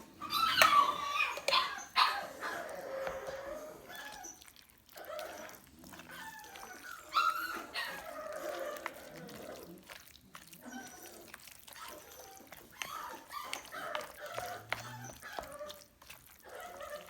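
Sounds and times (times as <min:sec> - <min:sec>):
dogs whining and yipping: 0:00.0 - 0:17.0.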